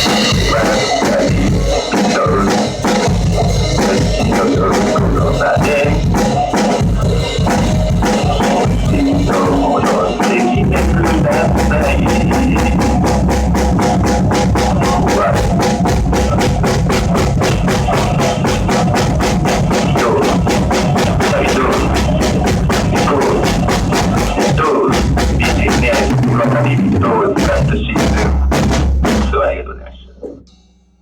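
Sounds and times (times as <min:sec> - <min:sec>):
rock song: 0:00.0 - 0:30.2
drum kit playing: 0:00.0 - 0:31.0.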